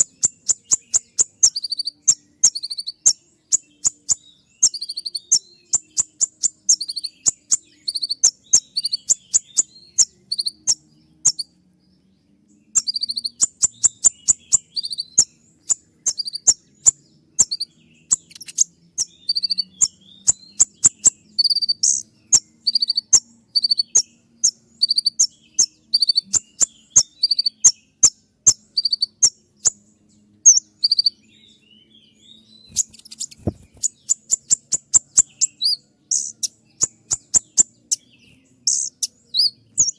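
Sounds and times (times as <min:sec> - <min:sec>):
sunbird singing high sharp notes: 0:00.0 - 0:11.6, 0:12.6 - 0:39.9.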